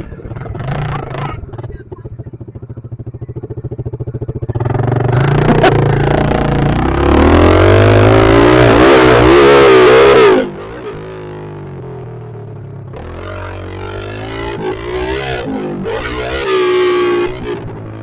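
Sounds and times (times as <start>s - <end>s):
motorbike engine revving: 0.0s - 18.0s.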